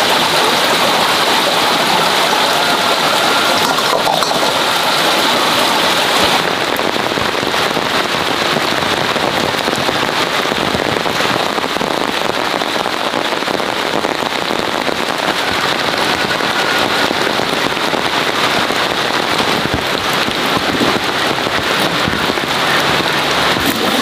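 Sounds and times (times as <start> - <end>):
rain falling on foliage: 0.0 - 24.0.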